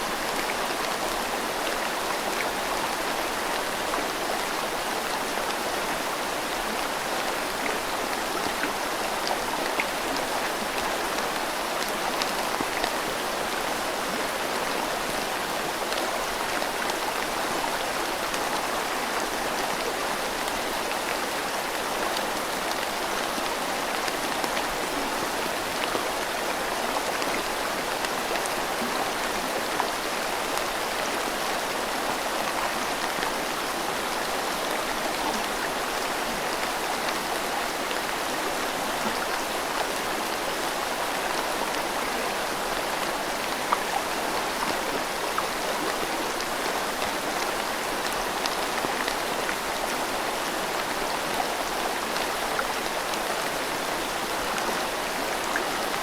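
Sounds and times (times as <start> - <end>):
flowing river: 0.0 - 56.0
steady rain: 0.0 - 56.0.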